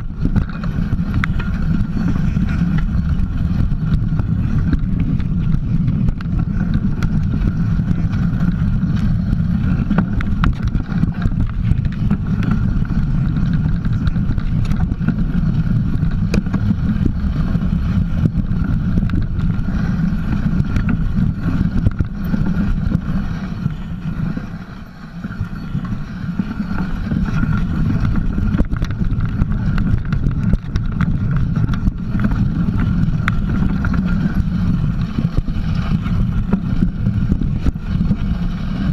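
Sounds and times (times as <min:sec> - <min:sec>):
bike clicks and rattles: 0:00.0 - 0:38.9
wind rumble on microphone: 0:00.0 - 0:38.9
tyre rolling on dirt: 0:00.2 - 0:38.9.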